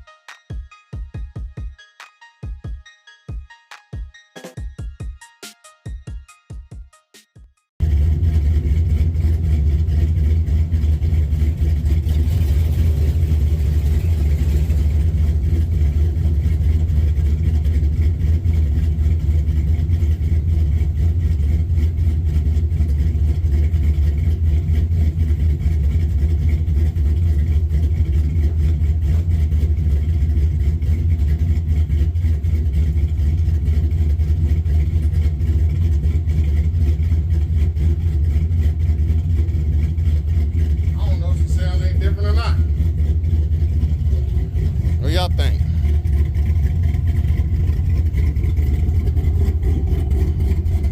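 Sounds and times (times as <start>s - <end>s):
car engine idling: 7.8s - 50.9s.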